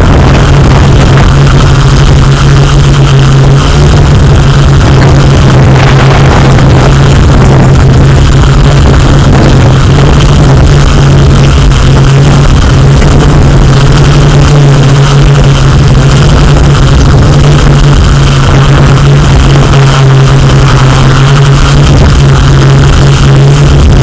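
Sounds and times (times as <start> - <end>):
drone motors and propellers humming: 0.0 - 24.0.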